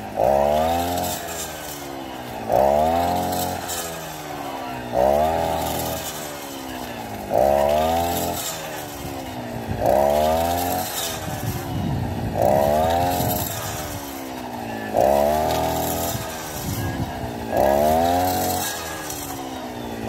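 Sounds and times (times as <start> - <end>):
brush cutter engine revving: 0.0 - 20.0.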